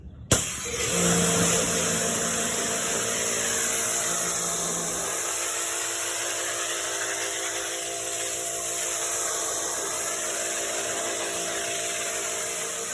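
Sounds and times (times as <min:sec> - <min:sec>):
pressure washer running: 0:00.3 - 0:12.9.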